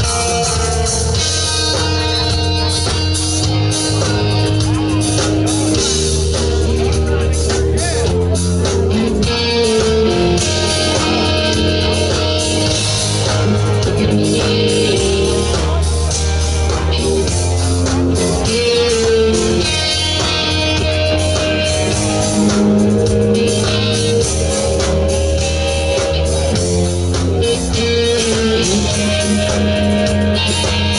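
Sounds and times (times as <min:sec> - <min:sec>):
rock band playing: 0:00.0 - 0:30.9.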